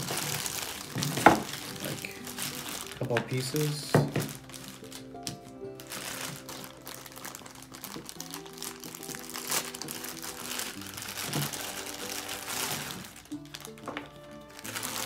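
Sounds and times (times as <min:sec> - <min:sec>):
background music with held notes: 0:00.0 - 0:15.0
plastic bags crinkling: 0:00.0 - 0:15.0.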